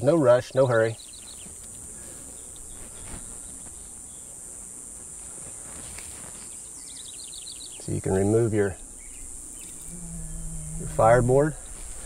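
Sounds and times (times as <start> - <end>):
insects buzzing in grass: 0.2 - 12.0
faint rustle: 0.8 - 12.0.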